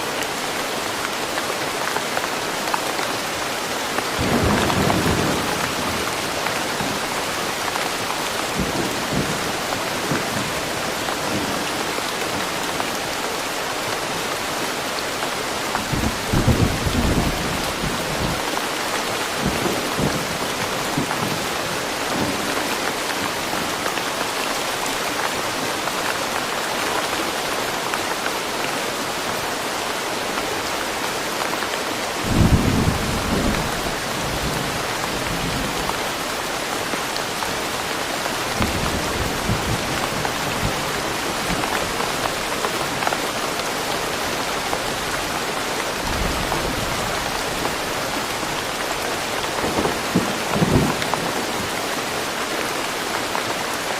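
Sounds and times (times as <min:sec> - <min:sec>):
steady rain in a forest: 0:00.0 - 0:53.9.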